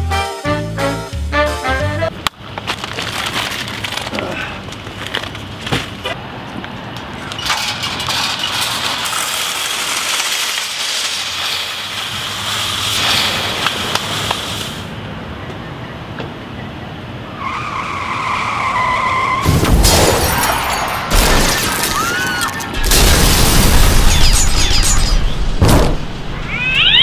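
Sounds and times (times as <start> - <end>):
traffic-like noise: 0.0 - 27.0.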